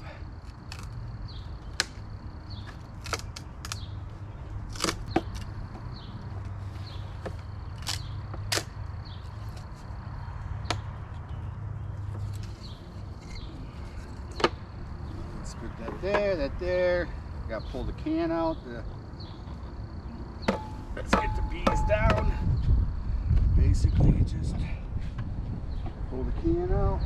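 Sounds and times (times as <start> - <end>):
steady low hum: 0.0 - 26.3.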